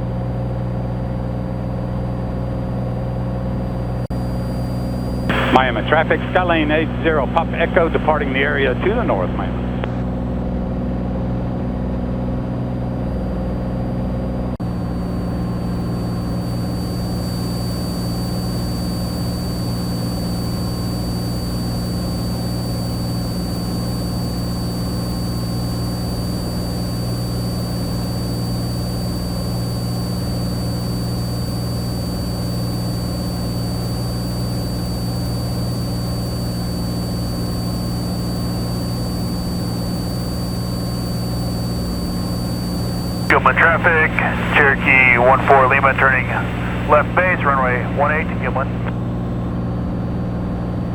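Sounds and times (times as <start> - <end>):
airplane engine droning: 4.1 - 10.5, 14.6 - 50.6.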